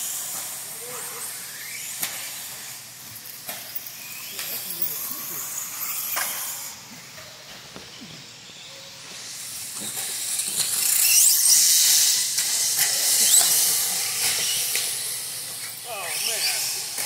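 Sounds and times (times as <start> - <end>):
rc buggy hissing: 0.0 - 17.0.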